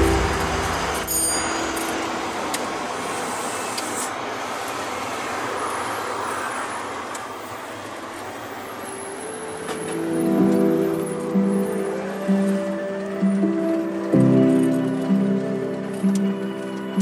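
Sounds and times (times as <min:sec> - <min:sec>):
car interior road noise: 0:00.0 - 0:14.0
passing traffic: 0:00.0 - 0:17.0.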